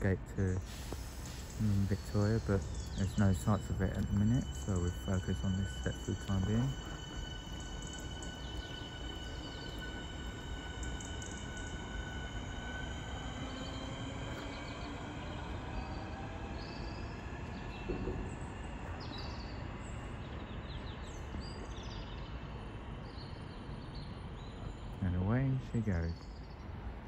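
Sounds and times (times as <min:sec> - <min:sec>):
electric train humming: 0:00.0 - 0:27.0
bird chirps: 0:00.5 - 0:26.8.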